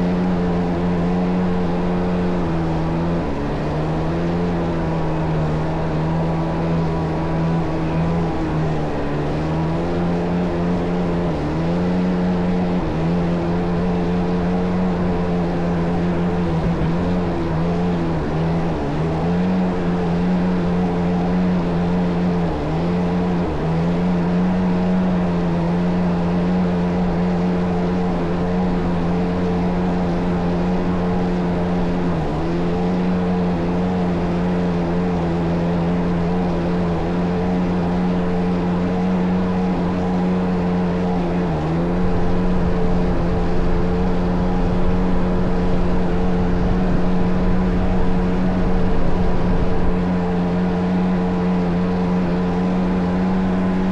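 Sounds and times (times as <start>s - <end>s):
jet ski engine at high revs: 0.0s - 53.9s.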